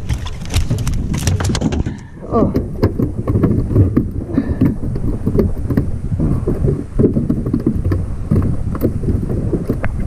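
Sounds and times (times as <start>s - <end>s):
fish flopping on deck: 0.0s - 10.0s
wind rumbling on microphone: 0.0s - 10.0s.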